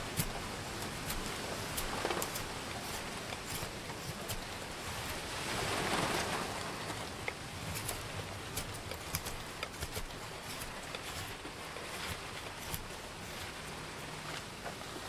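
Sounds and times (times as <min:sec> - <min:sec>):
knife carving wood: 0:00.0 - 0:14.5
wind and rain hiss: 0:00.0 - 0:15.0.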